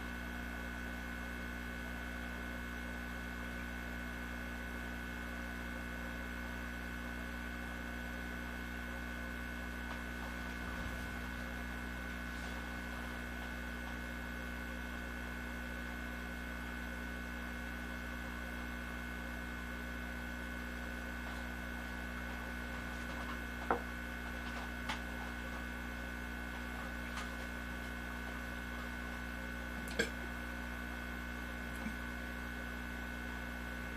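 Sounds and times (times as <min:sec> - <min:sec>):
steady electrical hum: 0:00.0 - 0:33.9.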